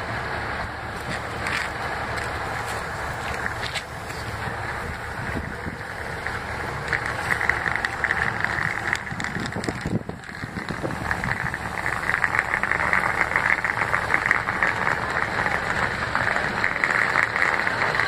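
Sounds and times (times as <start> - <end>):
diesel train engine idling: 0.0 - 18.0.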